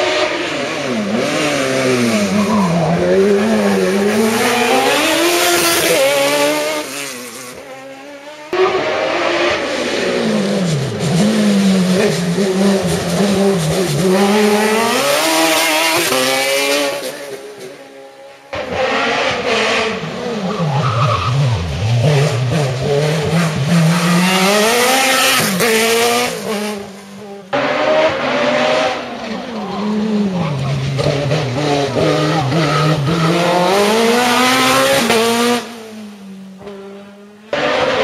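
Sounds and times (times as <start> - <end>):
race car engine revving: 0.0 - 38.0.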